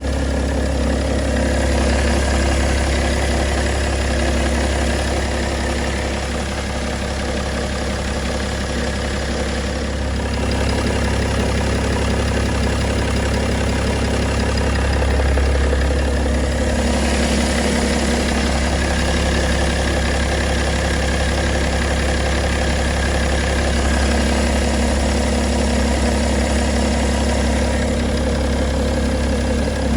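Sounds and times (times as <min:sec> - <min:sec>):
diesel engine idling: 0:00.0 - 0:29.9.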